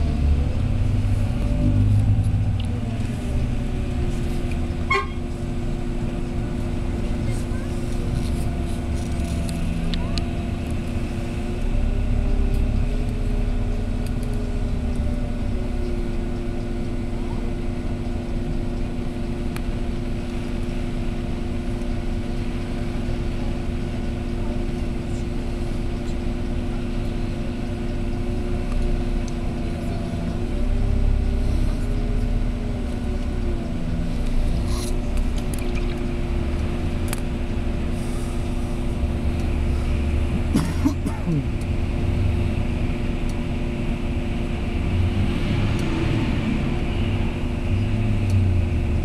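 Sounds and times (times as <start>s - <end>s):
diesel engine revving: 0.0s - 49.0s.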